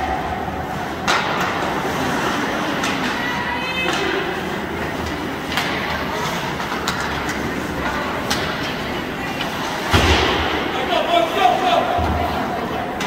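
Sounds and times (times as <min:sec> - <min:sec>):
spectators murmuring: 0:00.0 - 0:13.0
hockey sticks and puck clacking: 0:00.1 - 0:13.0
skates scraping on ice: 0:00.1 - 0:13.0.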